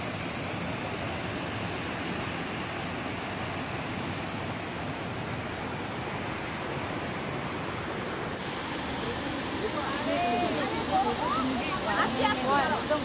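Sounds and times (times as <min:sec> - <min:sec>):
waterfall rushing over rock: 0:00.0 - 0:13.0.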